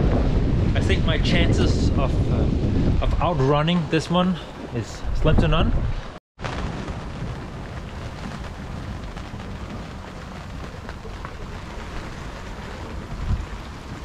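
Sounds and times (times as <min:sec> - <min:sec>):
rain on sprayhood: 0:00.0 - 0:14.0
water rushing along hull: 0:00.0 - 0:14.0
wind rumbling over microphone: 0:00.0 - 0:14.0.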